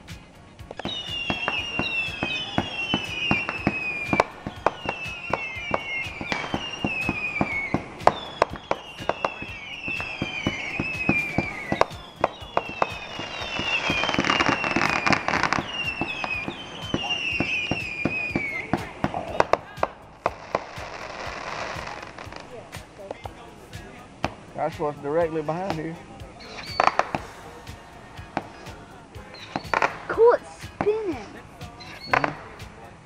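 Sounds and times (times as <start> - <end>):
whistling fireworks: 0.0 - 23.3, 24.3 - 32.9
firework crackling pops: 0.0 - 32.8.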